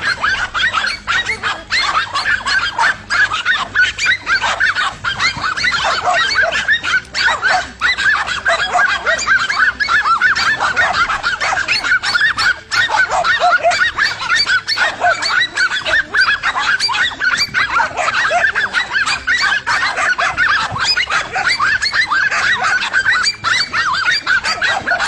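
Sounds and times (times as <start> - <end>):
dogs barking and yapping: 0.0 - 25.0.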